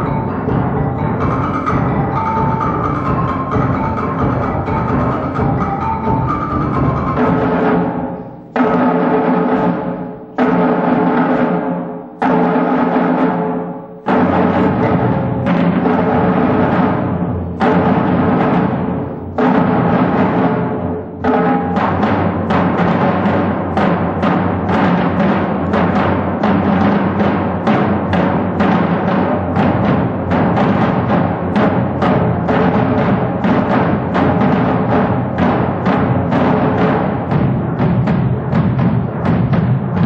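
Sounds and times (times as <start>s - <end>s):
concert band playing: 0.0s - 40.0s
timpani and percussion: 0.0s - 40.0s.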